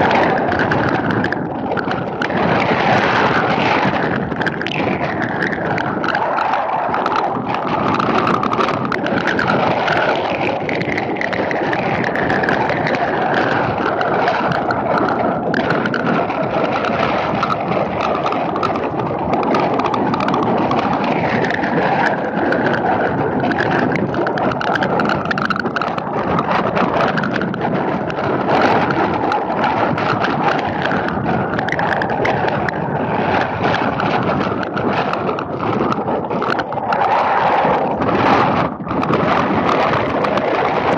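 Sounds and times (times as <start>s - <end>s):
rain noise: 0.0s - 40.9s
wind rushing on microphone: 0.0s - 40.9s.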